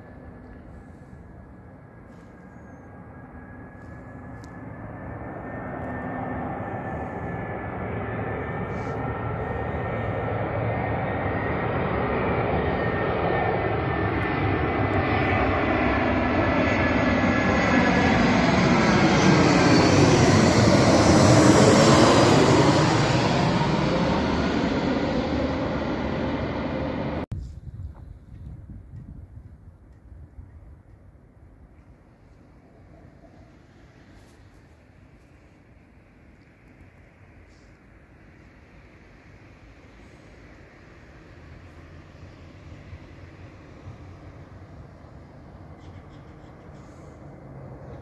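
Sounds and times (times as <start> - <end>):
jet airliner flying overhead: 0.0 - 48.0.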